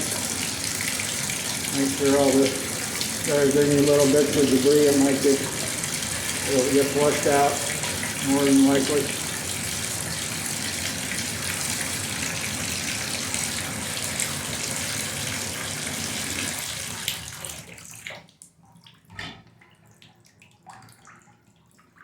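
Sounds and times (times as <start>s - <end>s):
water drips: 0.0s - 14.7s, 16.3s - 22.0s
shower water spraying into tub: 0.0s - 18.1s.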